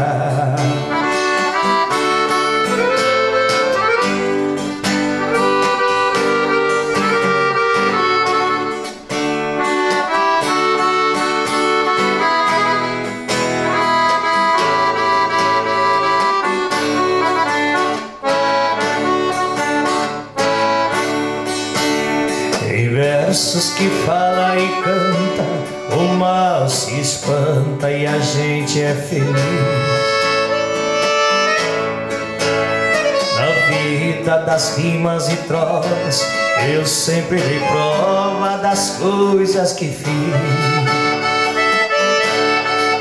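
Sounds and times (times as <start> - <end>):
accordion playing melody: 0.0 - 43.0
strummed guitar: 0.0 - 43.0.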